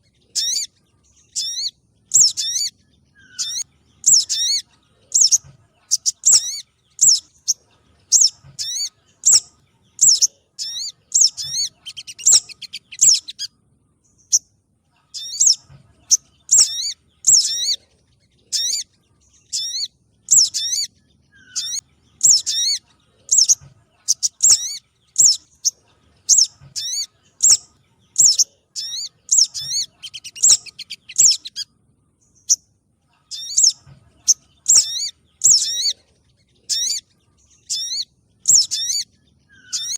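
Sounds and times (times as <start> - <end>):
high bird chirps: 0.0 - 39.9.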